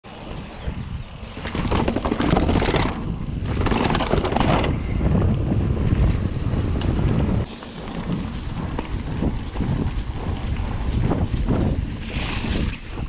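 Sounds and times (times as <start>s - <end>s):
bike rattling down steps: 0.1s - 13.0s
wind noise on microphone: 0.2s - 13.0s.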